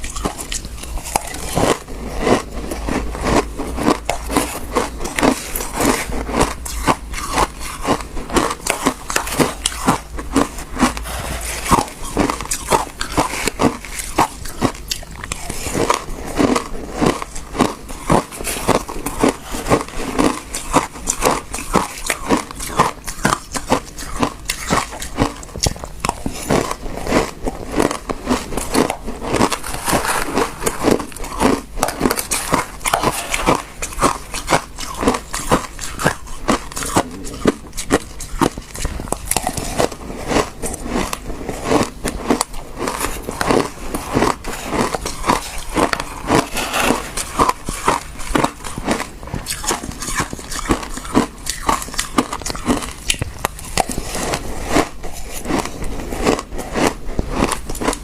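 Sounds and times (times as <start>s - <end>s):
frozen ice being chewed: 0.0s - 58.0s.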